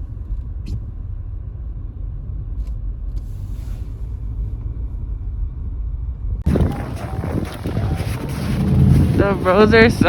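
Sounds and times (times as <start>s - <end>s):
car interior rumble: 0.0s - 10.0s.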